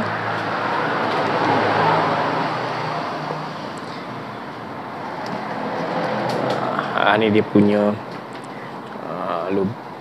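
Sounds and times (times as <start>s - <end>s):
vehicle engine hum: 0.0s - 9.6s.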